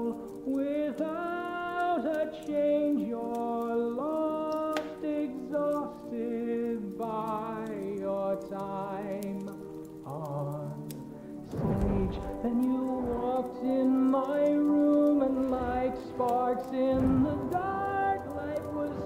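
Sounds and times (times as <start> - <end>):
faint scattered clicks: 0.0 - 19.0
muffled slow song: 0.0 - 19.0.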